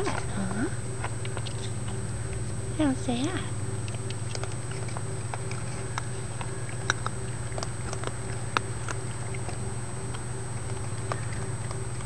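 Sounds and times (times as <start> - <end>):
raccoons crunching cereal: 0.0 - 12.0
steady low hum: 0.0 - 12.0.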